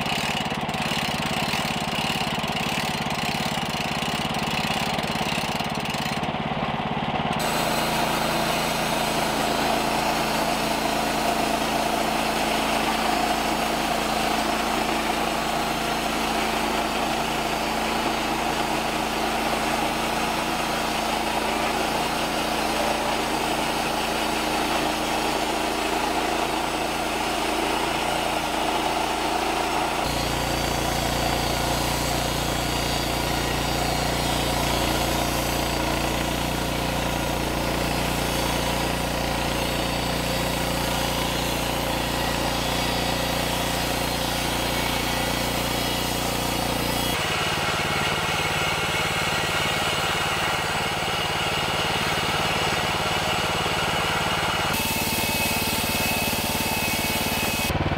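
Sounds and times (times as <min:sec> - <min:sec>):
bandsaw mill cutting log: 0:00.0 - 0:57.9.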